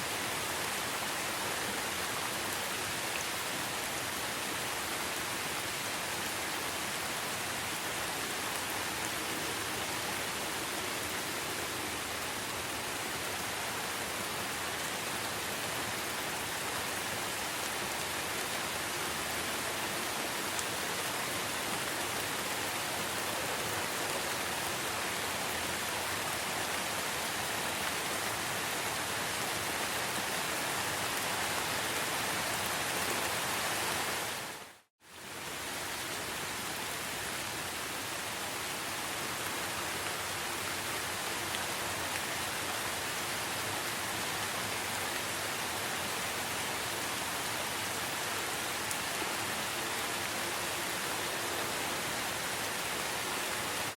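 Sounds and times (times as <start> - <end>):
steady rain in forest: 0.0 - 53.9.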